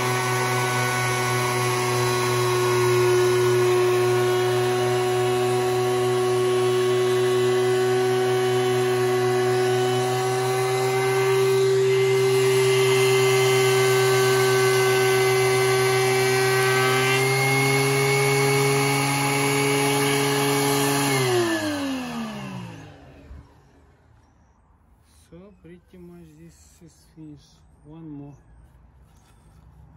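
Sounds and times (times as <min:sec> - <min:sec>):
thickness planer whining: 0:00.0 - 0:27.8.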